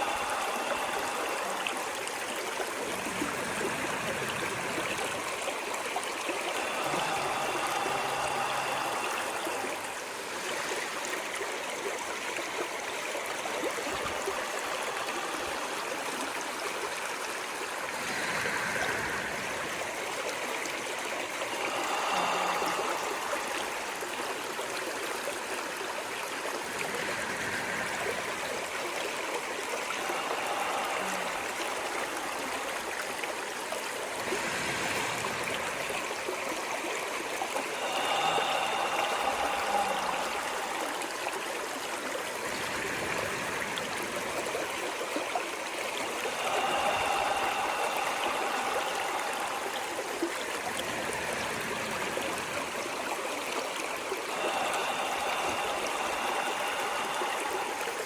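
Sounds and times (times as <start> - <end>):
stream of running water: 0.0 - 58.0.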